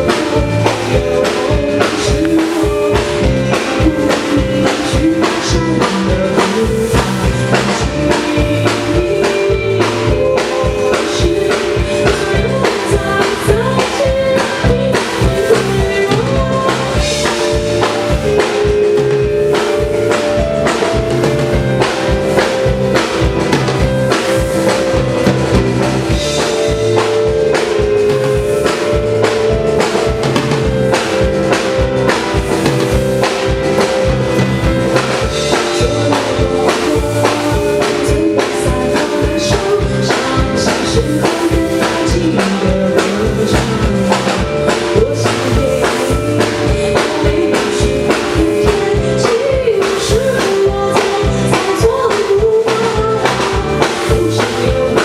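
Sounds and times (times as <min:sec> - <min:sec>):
drum kit beat: 0:00.0 - 0:55.0
person singing: 0:00.0 - 0:55.0
piano-rock band playing live: 0:00.0 - 0:55.0.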